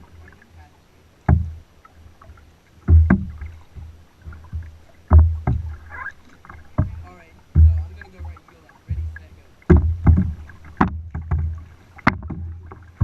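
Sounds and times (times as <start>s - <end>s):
paddle knocking against kayak: 1.2s - 13.0s.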